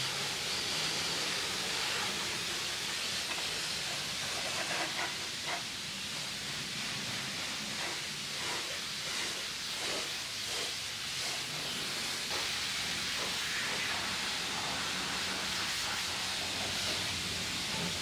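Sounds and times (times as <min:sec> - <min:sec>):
high-pressure water spray: 0:00.0 - 0:18.0.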